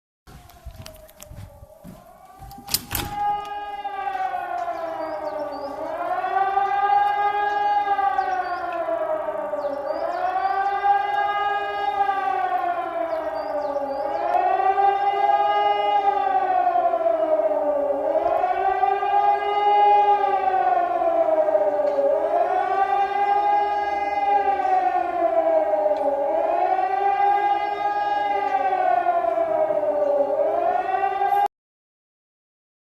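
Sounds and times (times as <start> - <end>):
wailing siren: 0.3 - 31.5.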